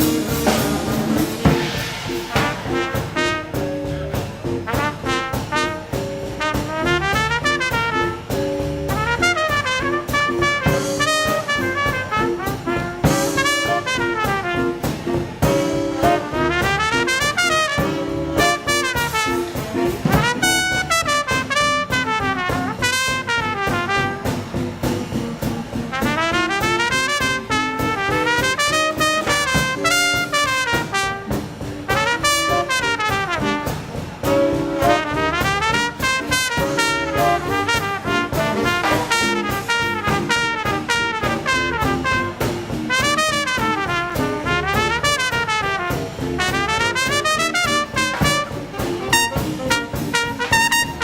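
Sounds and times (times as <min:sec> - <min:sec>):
bass: 0:00.0 - 0:51.0
drums: 0:00.0 - 0:51.0
horn section chords: 0:00.0 - 0:51.0
swing combo playing: 0:00.0 - 0:51.0
trumpet and trombone runs: 0:00.0 - 0:51.0.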